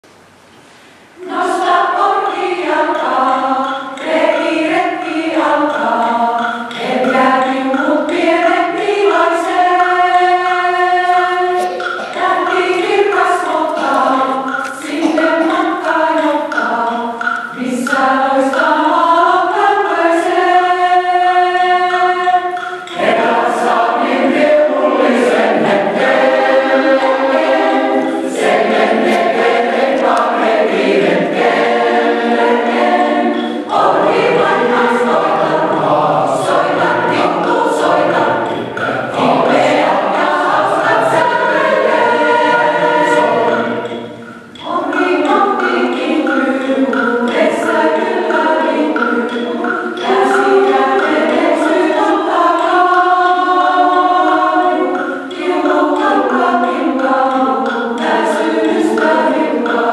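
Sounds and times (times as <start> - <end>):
mixed choir singing: 1.2 - 59.9.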